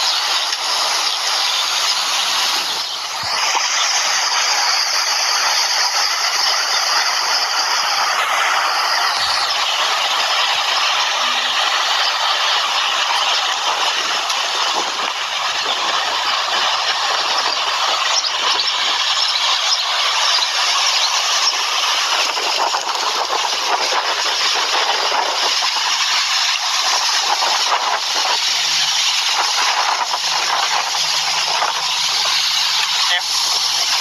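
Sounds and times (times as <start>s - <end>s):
wind gusting through leafy trees: 0.0s - 34.0s.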